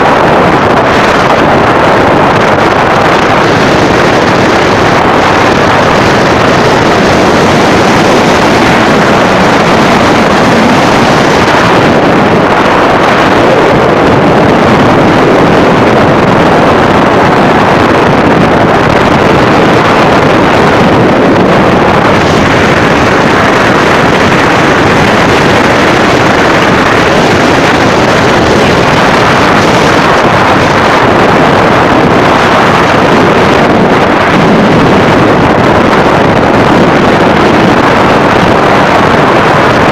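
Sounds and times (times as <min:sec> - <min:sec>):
storm wind and rain: 0:00.0 - 0:39.9
wind buffeting microphone: 0:00.0 - 0:39.9.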